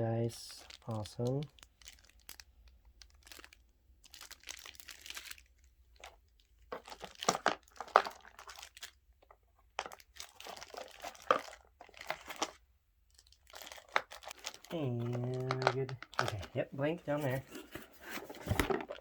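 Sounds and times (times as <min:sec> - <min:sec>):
plastic packaging crinkling: 0:00.5 - 0:19.0.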